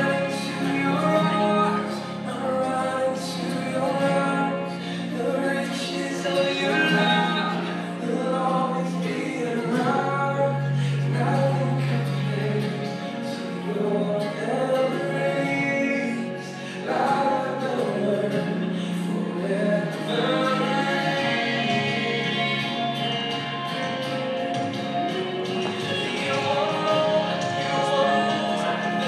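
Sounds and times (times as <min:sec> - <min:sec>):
person singing: 0:00.0 - 0:24.1, 0:25.0 - 0:29.0
held bass notes: 0:00.0 - 0:29.0.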